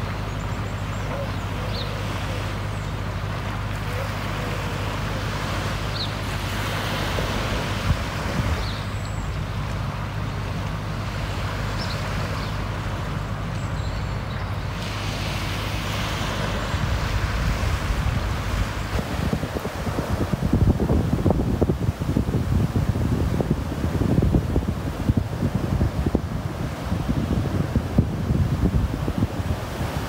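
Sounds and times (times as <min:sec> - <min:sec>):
rushing water: 0:00.0 - 0:30.0
wind: 0:00.0 - 0:30.0.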